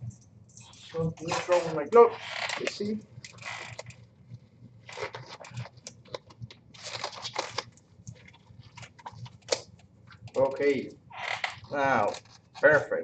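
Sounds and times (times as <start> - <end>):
rubber glove rustling: 0.7 - 12.8.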